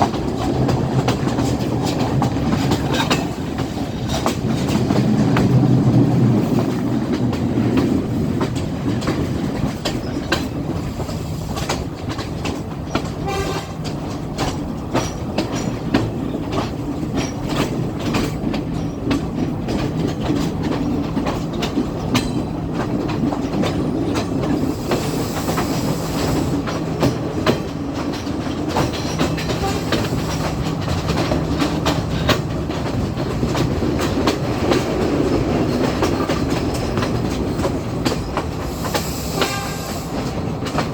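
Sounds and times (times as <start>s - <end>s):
train engine drone: 0.0s - 40.9s
train wheels clacking over rail joints: 0.0s - 40.9s.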